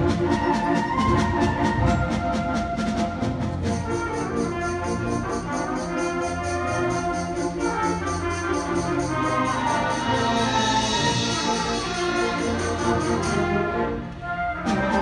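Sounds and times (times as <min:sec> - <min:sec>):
wind band playing: 0:00.0 - 0:15.0.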